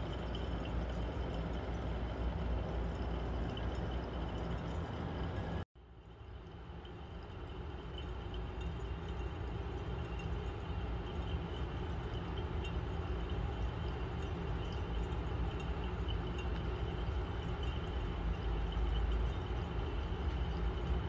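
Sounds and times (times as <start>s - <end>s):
magnetic stirrer rumbling: 0.0s - 21.0s.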